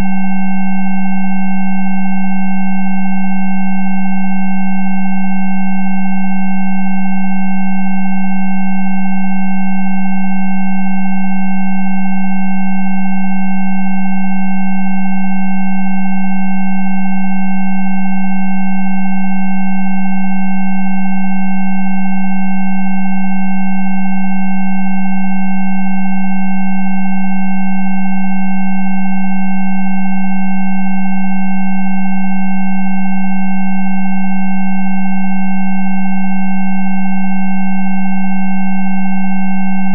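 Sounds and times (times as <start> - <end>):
low pure tone: 0.0 - 39.9.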